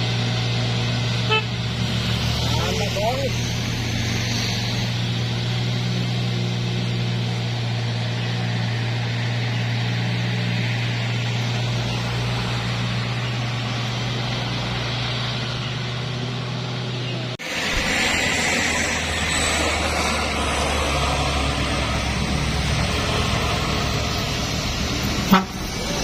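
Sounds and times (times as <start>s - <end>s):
road noise: 0.0s - 26.0s
truck engine droning: 0.0s - 26.0s.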